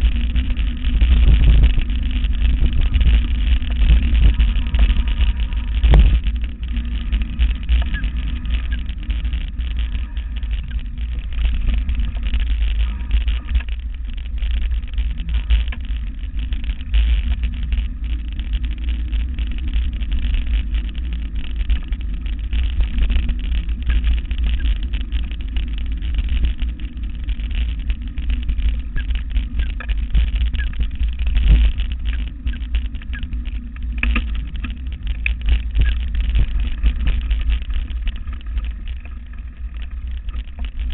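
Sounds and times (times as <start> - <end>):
mountain bike rattling on dirt trail: 0.0 - 40.9
wind rumble on microphone: 0.0 - 40.9.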